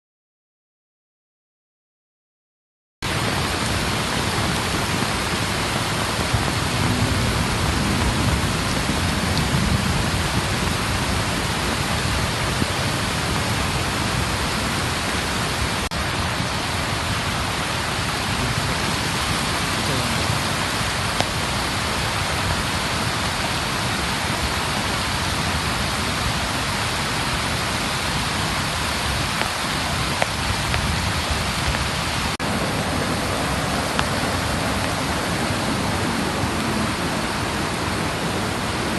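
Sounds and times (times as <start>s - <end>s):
flood water rushing: 3.0s - 38.9s.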